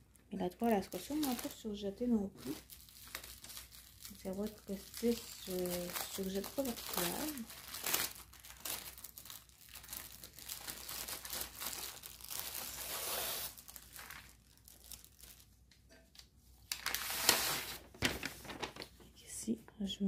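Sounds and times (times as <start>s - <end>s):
plastic and paper crinkling: 0.4s - 15.6s, 16.6s - 19.2s.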